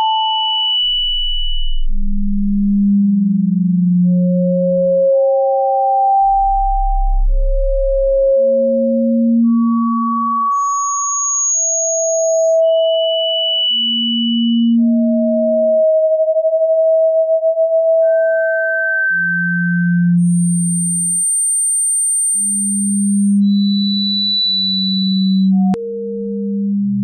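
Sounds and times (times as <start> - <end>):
pure sine tones: 0.0 - 27.0.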